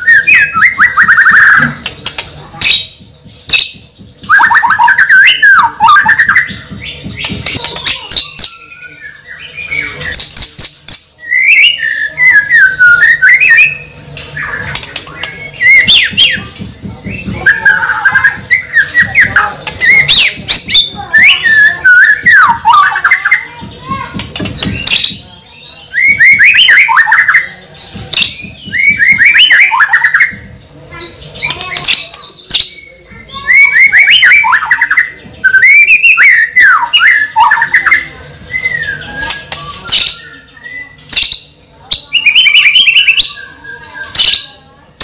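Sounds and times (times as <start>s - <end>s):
bird chirping and whistling: 0.0s - 45.0s.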